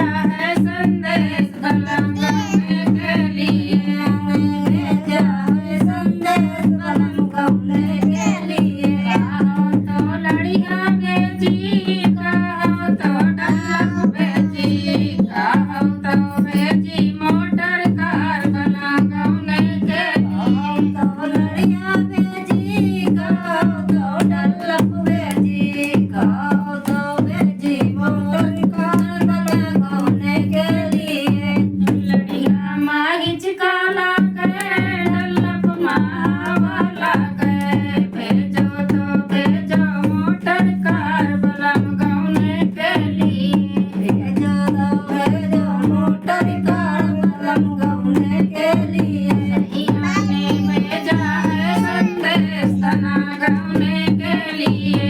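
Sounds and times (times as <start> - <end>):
quick drum rhythm: 0.0 - 32.8, 34.2 - 55.0.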